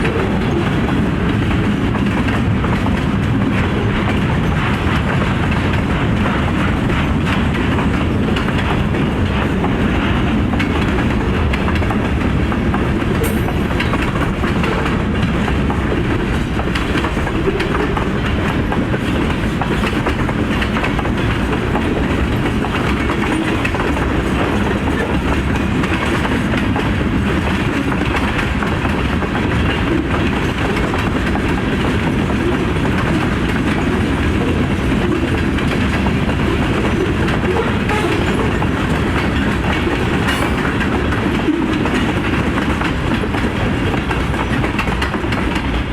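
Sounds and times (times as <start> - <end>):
freight train wheels clattering: 0.0 - 45.9.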